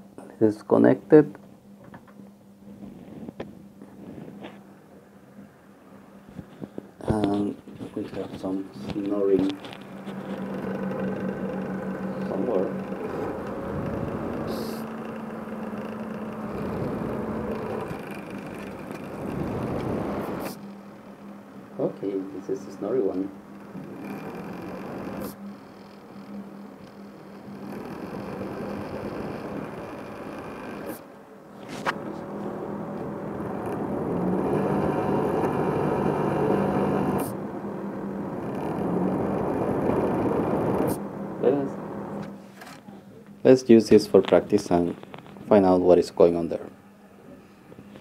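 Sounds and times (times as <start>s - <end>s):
small fans running: 0.0s - 48.0s
rough snoring fan noise: 6.2s - 42.4s, 43.4s - 48.0s.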